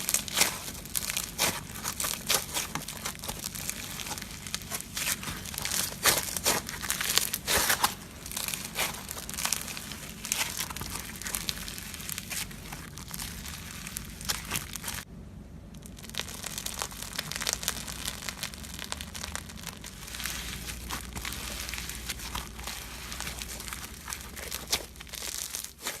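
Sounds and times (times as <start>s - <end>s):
slime crackling and clicking: 0.0s - 15.1s, 15.8s - 26.0s.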